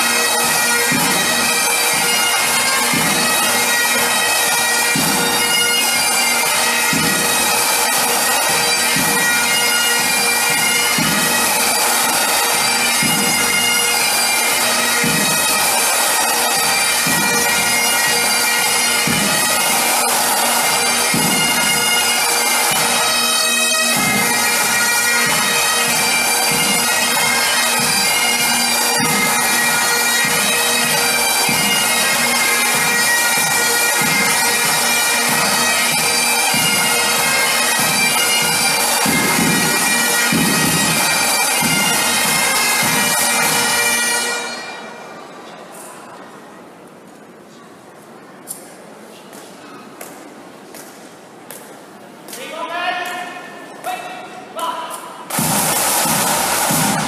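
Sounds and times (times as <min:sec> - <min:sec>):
drum beating: 0:00.0 - 0:44.1, 0:55.3 - 0:57.0
bagpipes playing melody: 0:00.0 - 0:45.3, 0:55.3 - 0:57.0.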